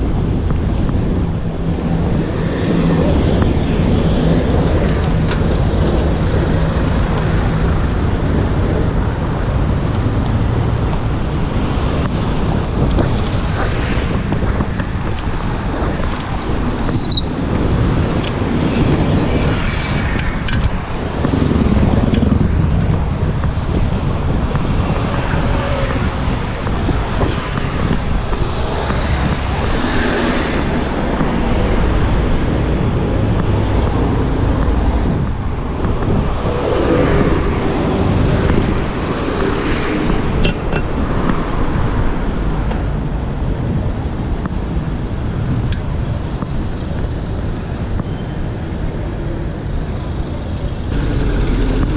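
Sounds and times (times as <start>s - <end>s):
road traffic passing: 0.0s - 51.9s
wind rumble on microphone: 0.0s - 51.9s.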